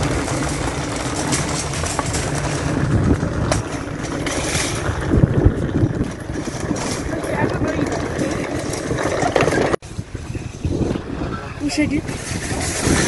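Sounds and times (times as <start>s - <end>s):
low bumps: 0.0s - 13.0s
plastic wheels rumbling over asphalt: 0.0s - 13.0s.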